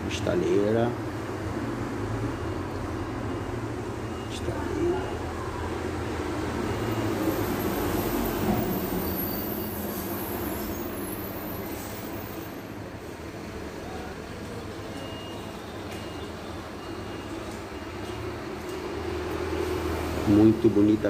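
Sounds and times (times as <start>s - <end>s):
heavy vehicle rumbling past: 0.0s - 14.8s, 16.5s - 21.0s.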